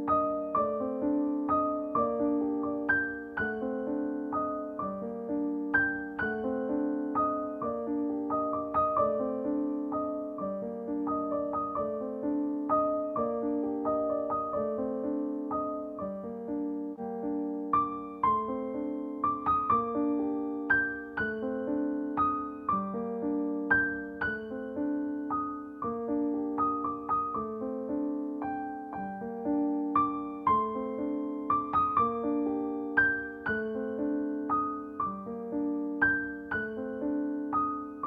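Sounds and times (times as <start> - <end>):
gentle piano music: 0.0 - 38.0.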